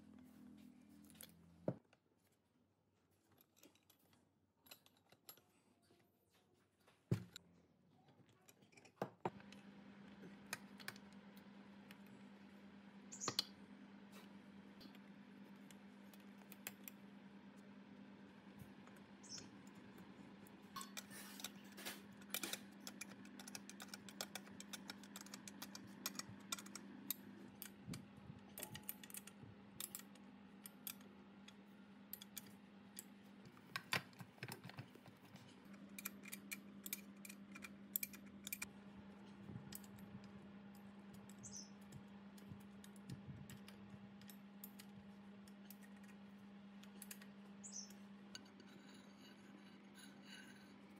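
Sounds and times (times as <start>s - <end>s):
steady low hum: 9.2s - 50.9s.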